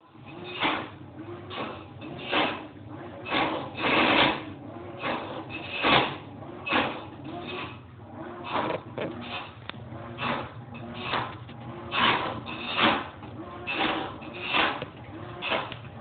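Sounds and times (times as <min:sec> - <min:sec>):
washing machine harsh noise: 0:00.0 - 0:16.0.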